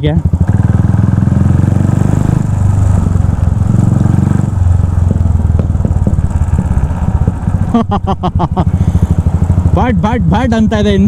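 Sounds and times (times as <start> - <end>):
single-cylinder motorcycle engine: 0.0 - 11.0.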